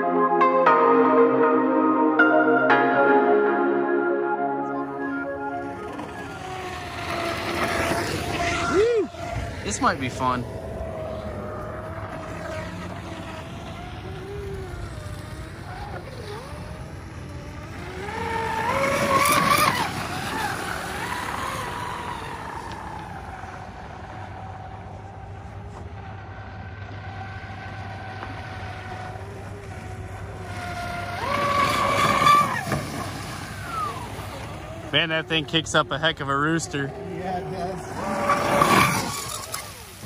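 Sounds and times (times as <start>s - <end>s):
speedboat motor whining: 0.0s - 40.0s.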